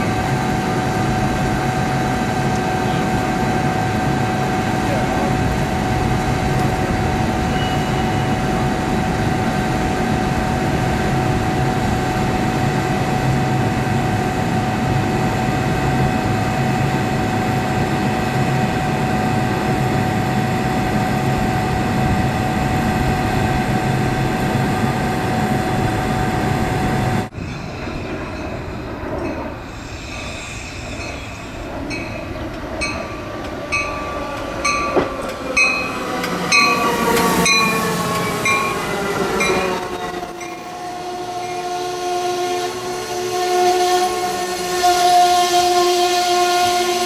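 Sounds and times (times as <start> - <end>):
train running with whine: 0.0 - 47.0.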